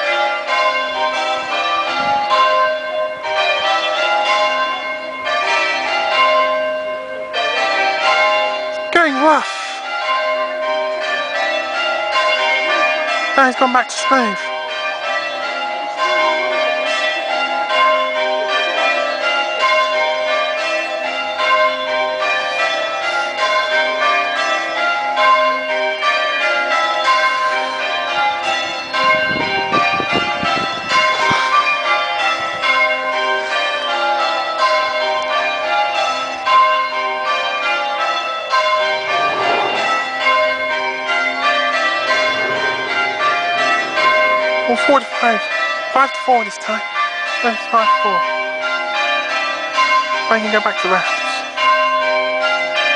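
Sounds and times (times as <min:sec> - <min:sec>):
church bells ringing: 0:00.0 - 0:52.9.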